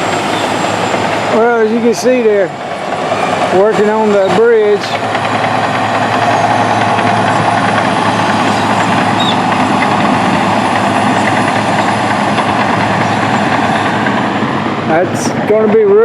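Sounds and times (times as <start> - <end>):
heavy equipment engine rumble: 0.0 - 16.0.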